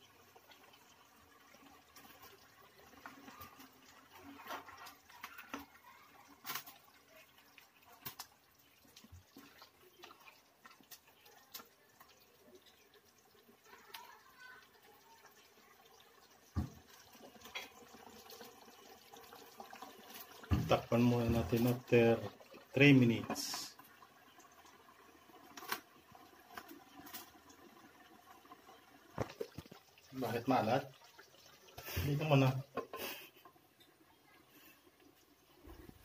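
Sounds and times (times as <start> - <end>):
sauce bubbling: 0.0 - 36.0.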